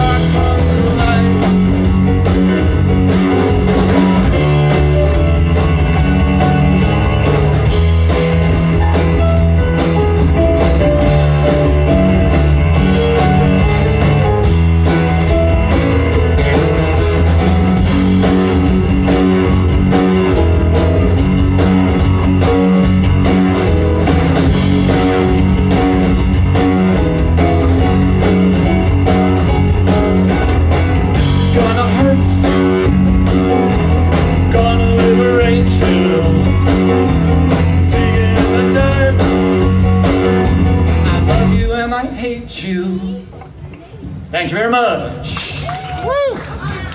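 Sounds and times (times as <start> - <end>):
electric guitar: 0.0 - 41.7
drum kit: 0.0 - 42.6
keyboard: 0.0 - 42.6
electric bass: 0.0 - 42.8.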